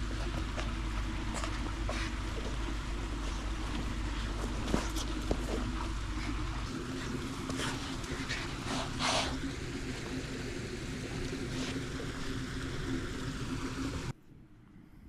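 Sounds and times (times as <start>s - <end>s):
running water: 0.0s - 14.1s
low hum: 0.0s - 15.0s.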